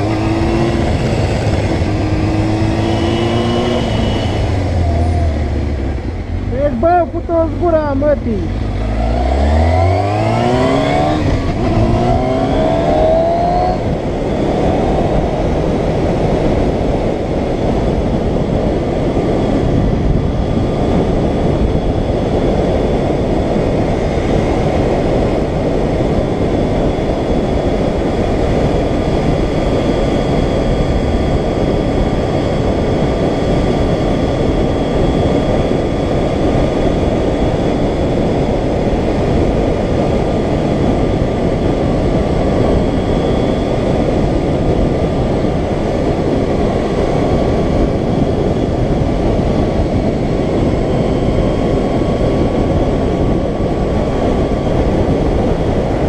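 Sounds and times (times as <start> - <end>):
motorcycle engine accelerating: 0.0 - 56.0
wind rush on microphone: 0.0 - 56.0.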